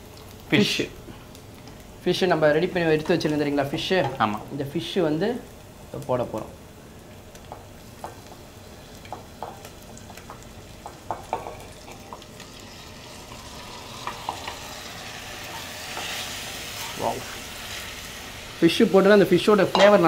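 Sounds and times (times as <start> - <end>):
fish and onions sizzling in oil: 0.0 - 20.0.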